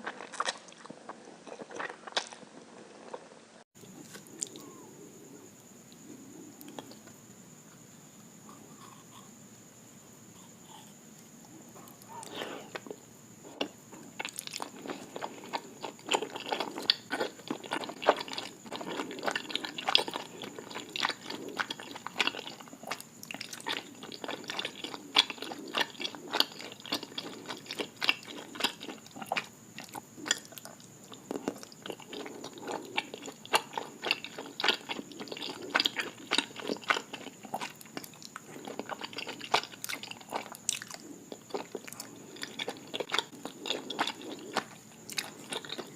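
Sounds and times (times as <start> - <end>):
chewing crunchy food: 0.0 - 7.1, 10.4 - 45.9.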